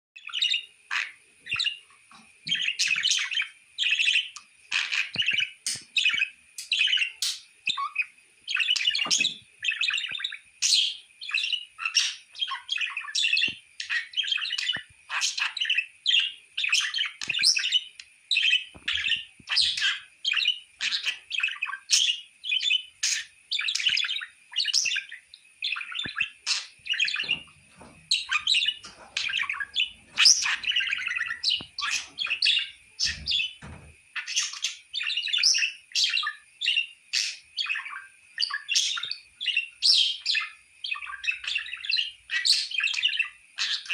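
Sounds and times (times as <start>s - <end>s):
budgerigars chattering and warbling: 0.2s - 43.9s.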